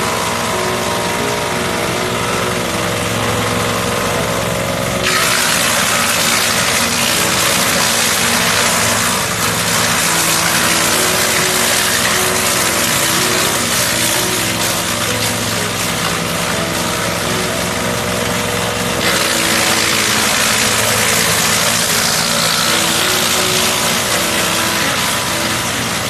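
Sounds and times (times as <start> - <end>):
shredder engine running: 0.0 - 26.0.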